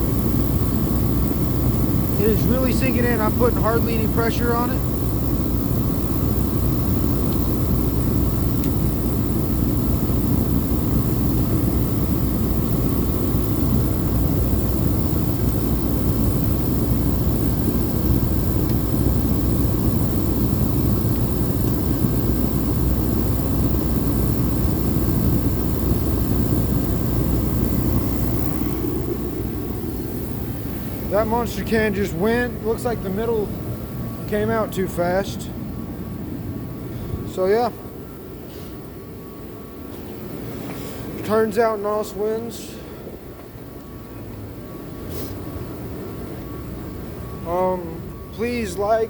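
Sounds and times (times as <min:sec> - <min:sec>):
faint steady tones: 0:00.0 - 0:49.0
heater burner and blower rushing: 0:00.0 - 0:49.0.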